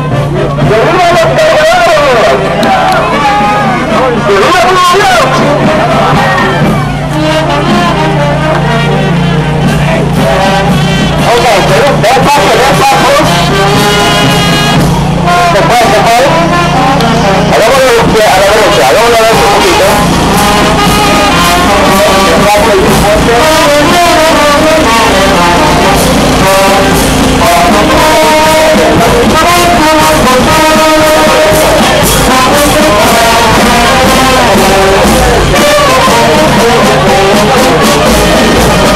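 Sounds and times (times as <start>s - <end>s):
brass music: 0.0s - 38.9s.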